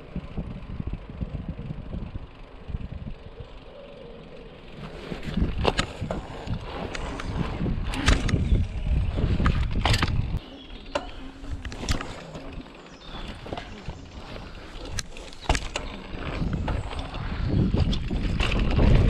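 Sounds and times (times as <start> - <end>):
bike tyre and frame rumble: 0.0 - 19.0.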